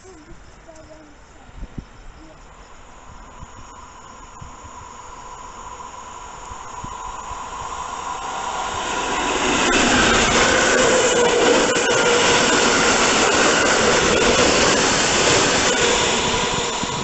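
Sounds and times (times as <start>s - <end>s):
train approaching: 2.0s - 17.0s
whining tones: 2.3s - 17.0s.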